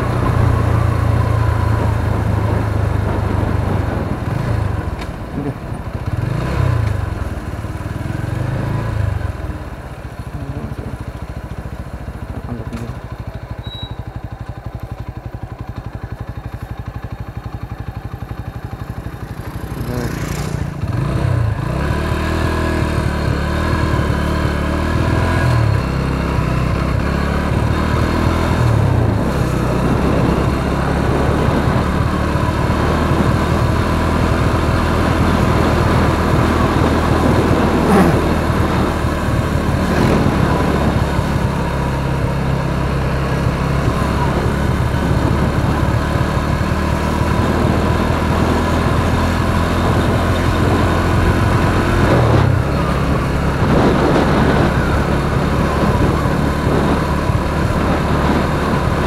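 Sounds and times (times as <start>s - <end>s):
wind noise on microphone: 0.0s - 9.4s, 20.6s - 59.0s
motorcycle engine running: 0.0s - 59.0s.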